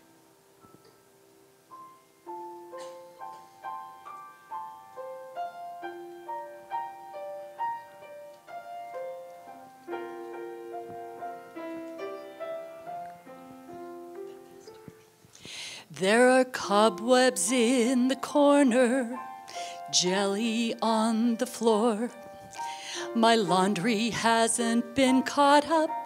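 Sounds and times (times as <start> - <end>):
piano melody over chords: 0.0 - 15.3, 16.0 - 26.0.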